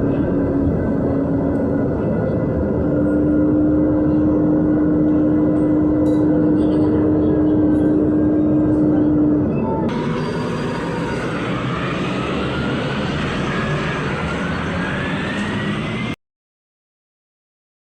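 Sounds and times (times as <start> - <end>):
bus engine accelerating with whine: 0.0 - 16.2
steady tone: 0.0 - 16.2.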